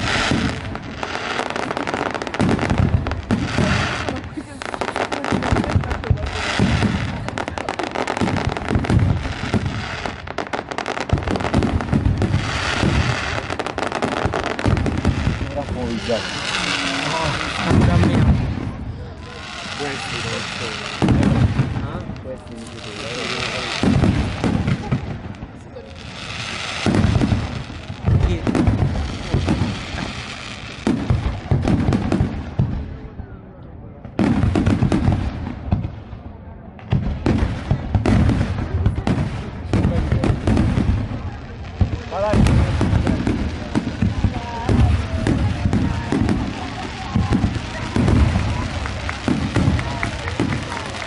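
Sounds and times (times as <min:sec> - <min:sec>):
fireworks low booms: 0:00.0 - 0:51.0
fireworks pops and crackles: 0:00.0 - 0:51.0.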